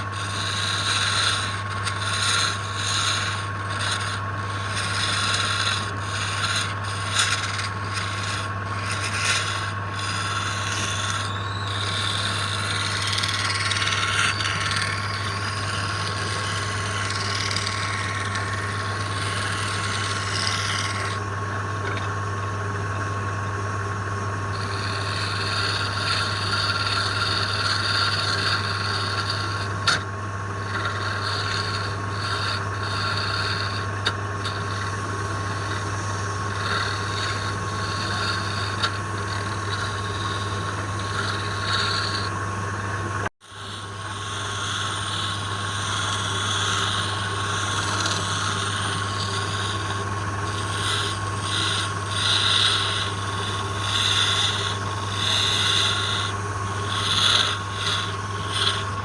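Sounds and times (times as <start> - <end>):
tool scraping spinning wood: 0.0 - 59.0
wood lathe motor hum: 0.0 - 59.0.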